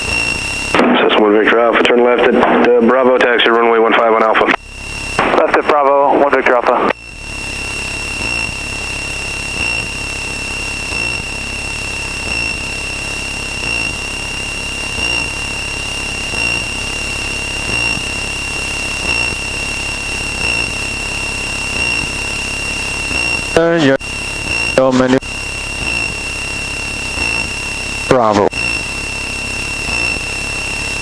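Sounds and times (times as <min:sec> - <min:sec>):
aircraft engine and airflow drone: 0:00.0 - 0:31.0
high-pitched whine: 0:00.0 - 0:31.0.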